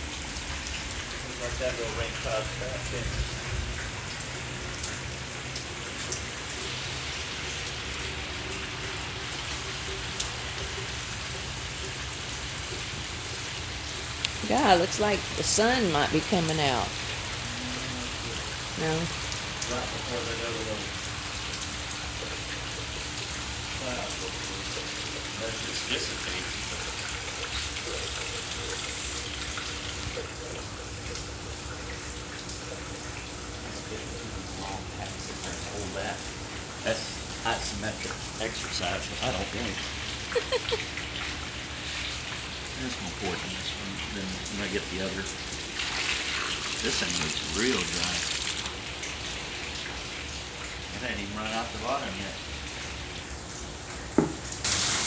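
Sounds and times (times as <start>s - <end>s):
drips ticking close by: 0.0s - 17.5s, 18.1s - 47.6s
steady rain falling: 0.0s - 55.0s.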